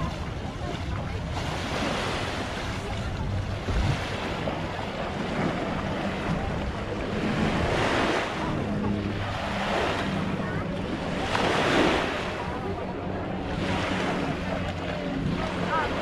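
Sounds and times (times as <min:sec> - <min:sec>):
waves washing onto shore: 0:00.0 - 0:16.0
wind buffeting microphone: 0:00.0 - 0:16.0.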